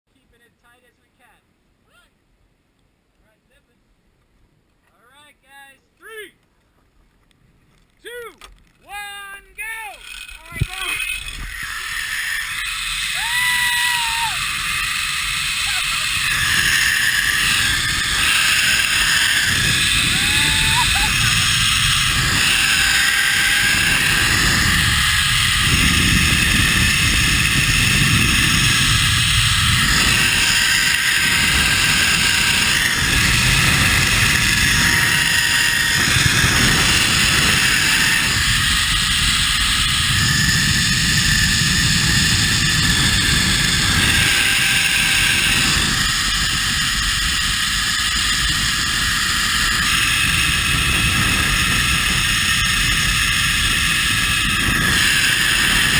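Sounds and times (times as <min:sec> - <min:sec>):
zipline pulleys running on cable: 0:08.9 - 0:55.9
wind rushing over microphone: 0:09.4 - 0:55.9
faint whine from trolley: 0:09.6 - 0:55.9.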